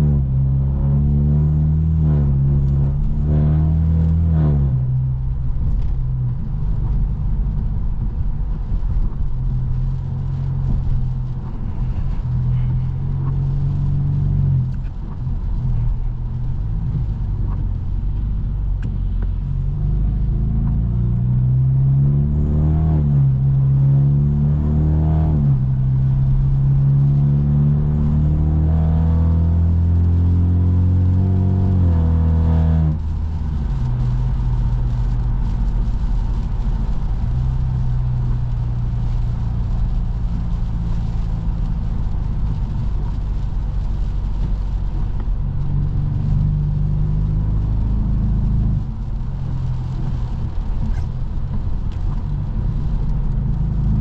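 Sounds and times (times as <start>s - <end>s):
car engine and exhaust revving: 0.0s - 54.0s.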